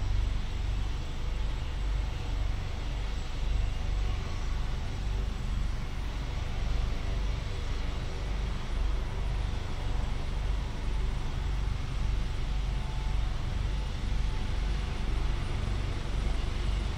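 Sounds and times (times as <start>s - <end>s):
helicopter rotor thrum: 0.0s - 16.9s.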